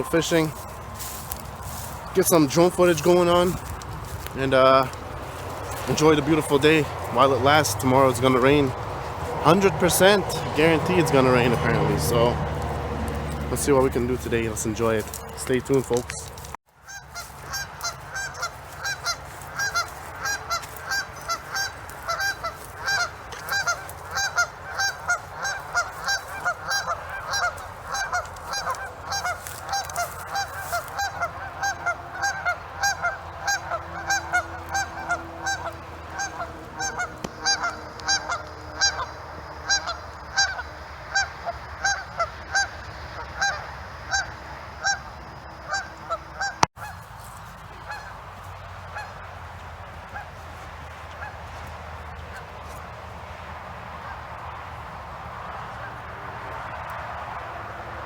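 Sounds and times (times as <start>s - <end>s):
geese honking: 0.0s - 52.9s.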